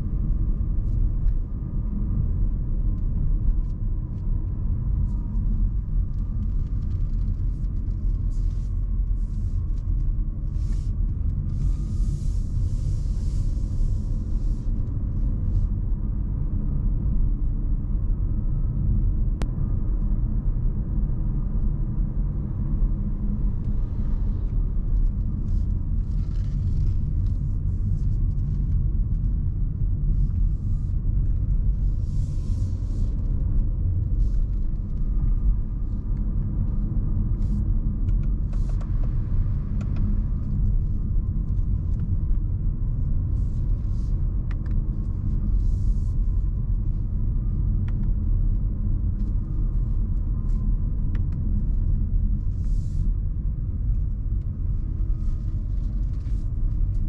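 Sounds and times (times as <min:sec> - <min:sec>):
road and tyre rumble: 0:00.0 - 0:57.0.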